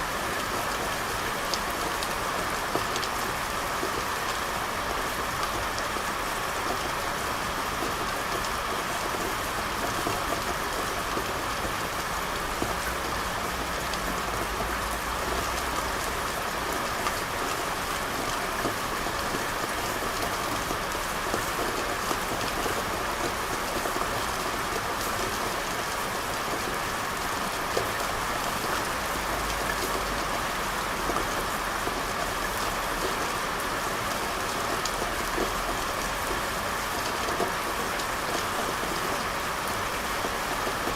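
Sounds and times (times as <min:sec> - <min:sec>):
rain hissing on street: 0:00.0 - 0:40.9.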